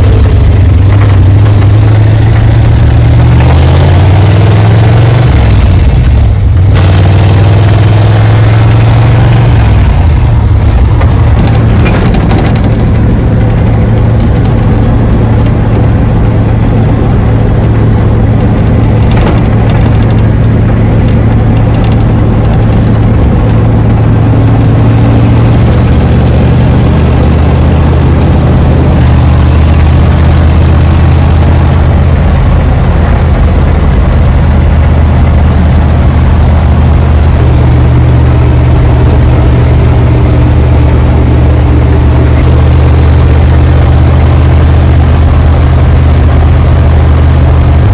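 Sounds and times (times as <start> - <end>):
road and wind noise: 0.0 - 47.9
truck engine running loudly: 0.0 - 47.9.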